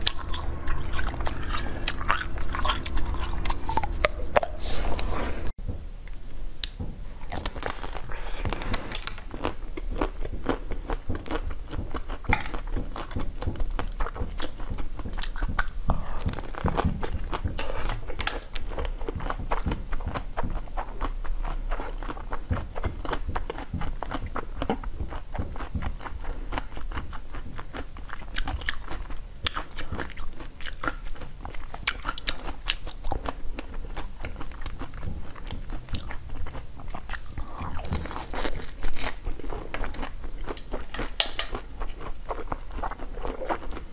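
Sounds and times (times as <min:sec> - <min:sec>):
crunching frozen ice cream: 0:07.2 - 0:43.9.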